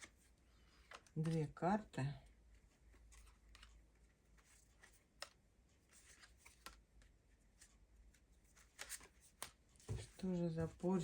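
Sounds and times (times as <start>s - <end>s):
cards rustling: 0.0s - 1.6s, 2.4s - 11.0s.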